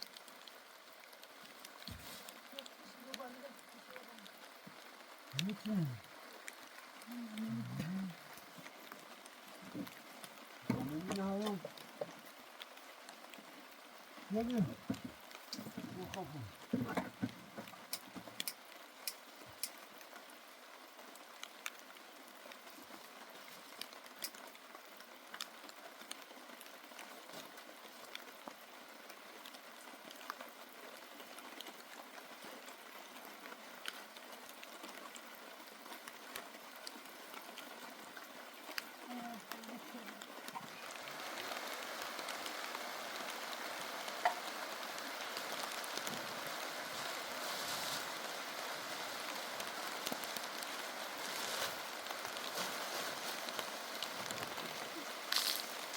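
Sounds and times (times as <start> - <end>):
rain hissing: 0.0 - 55.9.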